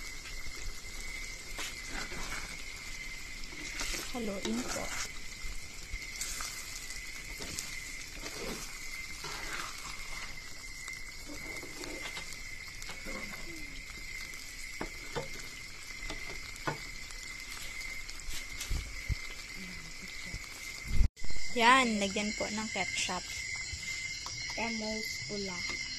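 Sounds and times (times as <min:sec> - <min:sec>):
spatula stirring and scraping: 0:00.0 - 0:20.8
sauce sizzling in a pan: 0:00.0 - 0:25.9.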